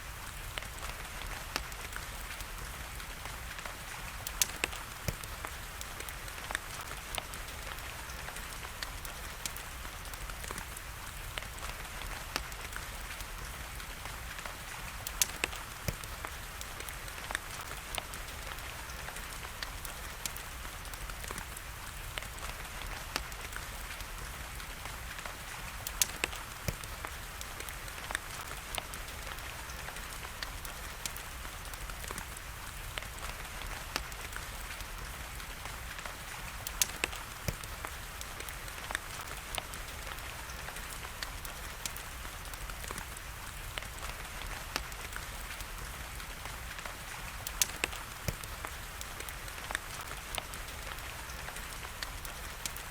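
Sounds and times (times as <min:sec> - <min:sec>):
steady rain hiss: 0:00.0 - 0:52.9
wood fire crackling: 0:00.0 - 0:52.9.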